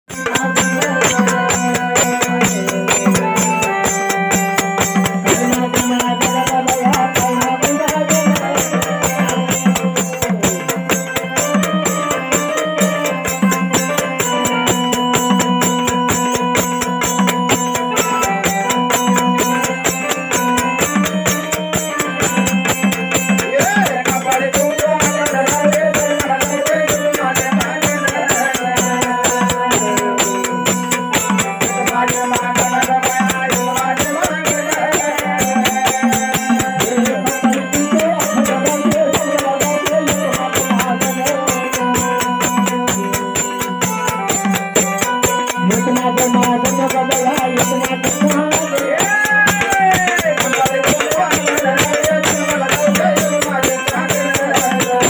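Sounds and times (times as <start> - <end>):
fast drum beating: 0.0 - 55.0.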